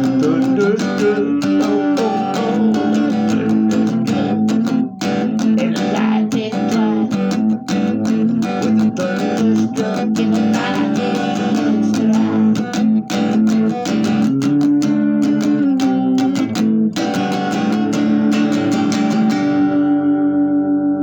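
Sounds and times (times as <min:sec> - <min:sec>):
guitar chords strummed: 0:00.0 - 0:21.0.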